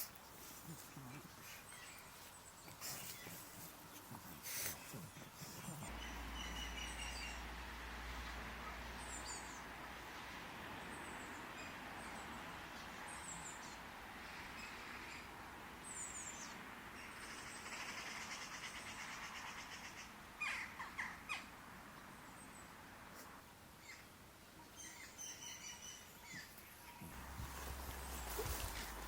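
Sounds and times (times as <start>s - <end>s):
wild birds chirping: 0.0s - 7.7s, 10.8s - 22.8s, 23.8s - 29.0s
soft steady hiss: 0.0s - 29.0s.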